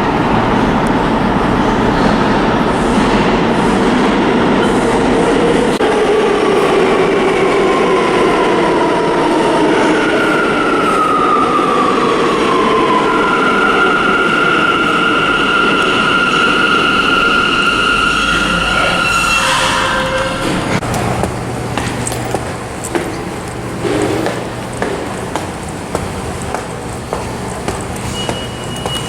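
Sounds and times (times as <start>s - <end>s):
subway train rumbling: 0.0s - 29.0s.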